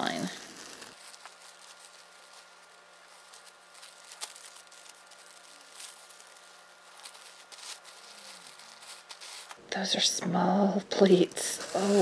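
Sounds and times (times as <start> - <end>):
tissue paper and fabric rustling: 0.0 - 9.6, 11.4 - 12.0.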